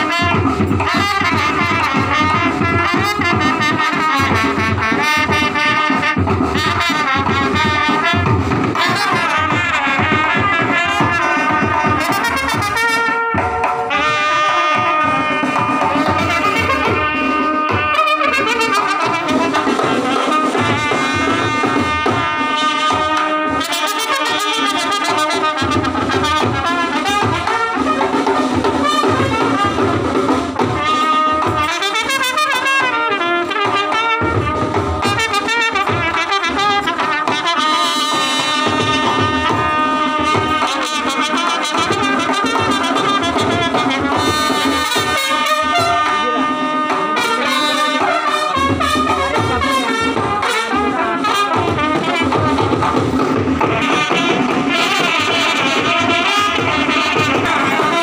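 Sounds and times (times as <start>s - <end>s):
beaten drum: 0.0s - 58.0s
brass band playing: 0.0s - 58.0s.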